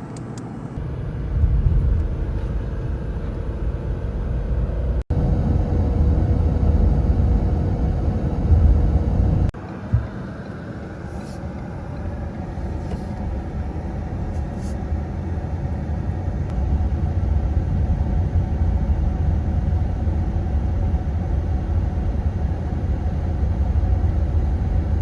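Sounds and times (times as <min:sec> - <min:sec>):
car engine and tyre rumble: 0:00.1 - 0:25.0.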